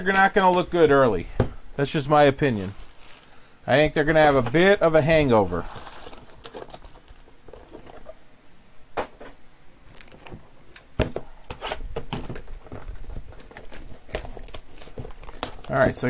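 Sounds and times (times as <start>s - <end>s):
card packs crinkling: 0.0s - 1.3s, 2.0s - 8.2s, 9.9s - 10.8s, 11.4s - 16.0s.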